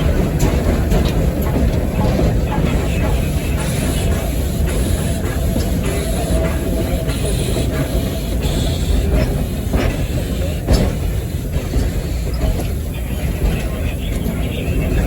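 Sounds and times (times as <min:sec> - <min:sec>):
steam locomotive rumble: 0:00.0 - 0:15.0.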